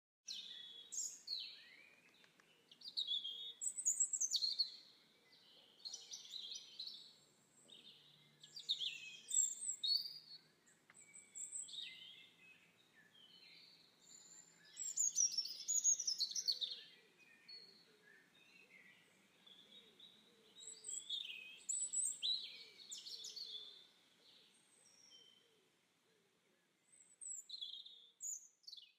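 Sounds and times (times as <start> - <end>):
small birds chirping: 0.3 - 28.9.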